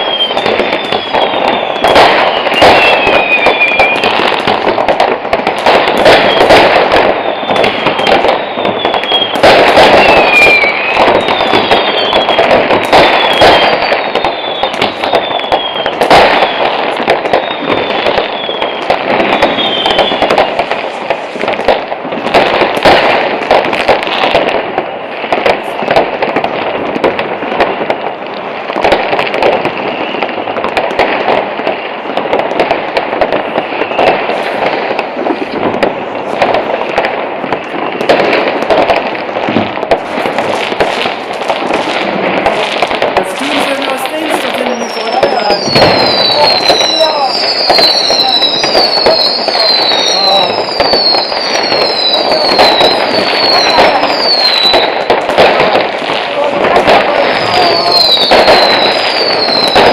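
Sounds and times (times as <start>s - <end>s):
firecrackers crackling: 0.0s - 59.9s
sharp firework bangs: 0.0s - 59.9s
whistling fireworks: 0.0s - 59.9s.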